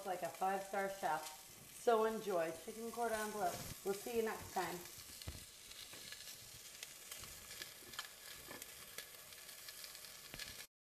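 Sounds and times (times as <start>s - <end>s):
faint steady hiss: 0.0s - 10.7s.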